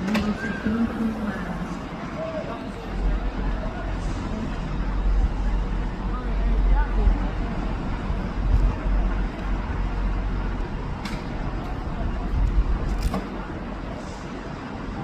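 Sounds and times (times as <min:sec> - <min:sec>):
trains rumbling: 0:00.0 - 0:15.0.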